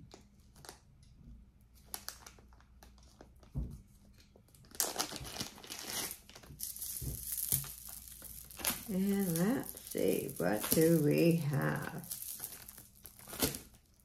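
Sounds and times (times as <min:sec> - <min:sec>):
packaging crinkling: 0:01.8 - 0:14.0.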